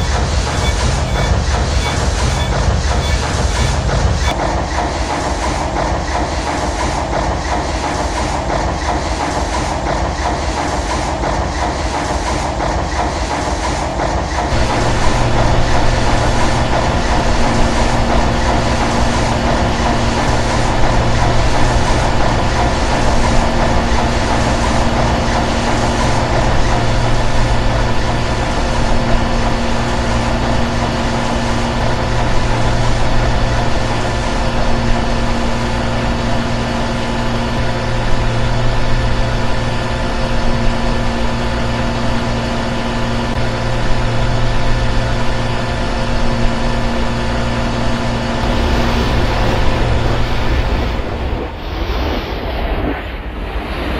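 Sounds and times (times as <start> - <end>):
large stationary engine humming: 0.0 - 53.9.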